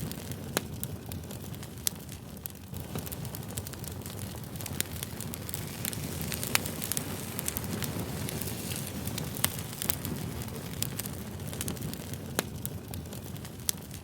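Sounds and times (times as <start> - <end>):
campfire rumbling: 0.0 - 14.0
wood crackling and popping: 0.0 - 14.0.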